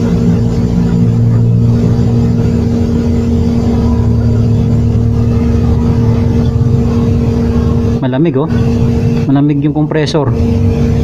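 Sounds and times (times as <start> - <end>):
refrigerator compressor humming: 0.0 - 11.0.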